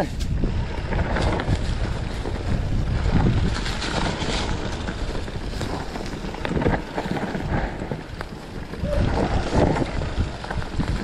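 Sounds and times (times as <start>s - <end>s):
bike knocking and rattling: 0.0s - 11.0s
bike tyre noise on dirt: 0.0s - 11.0s
wind buffeting the microphone: 0.0s - 11.0s.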